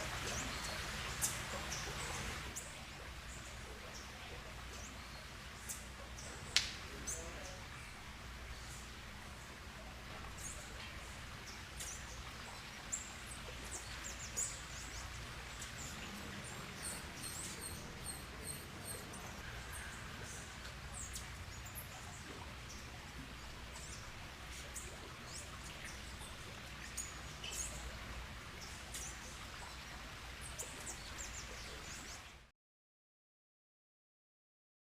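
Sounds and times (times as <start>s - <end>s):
birds chirping: 0.0s - 32.3s.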